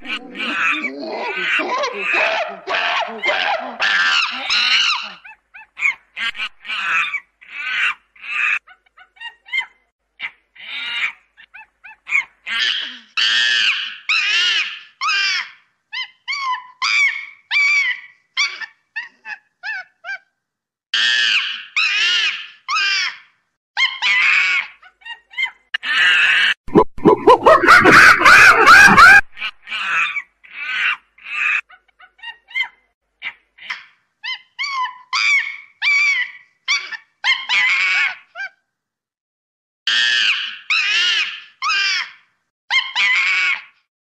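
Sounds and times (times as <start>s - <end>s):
chimpanzee cries and hoots: 0.0s - 20.3s, 21.0s - 38.6s, 39.9s - 43.8s.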